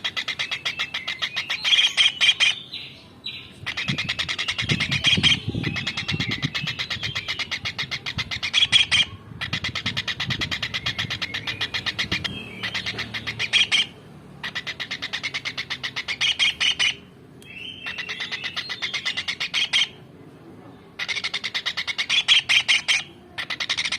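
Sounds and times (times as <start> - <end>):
kingfisher trilled calls: 0.0 - 2.6, 3.7 - 20.0, 21.0 - 23.9.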